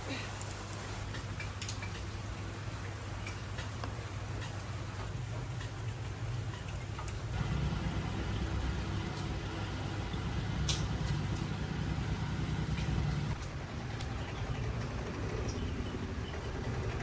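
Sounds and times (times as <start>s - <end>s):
engine rumbling: 1.0s - 17.0s.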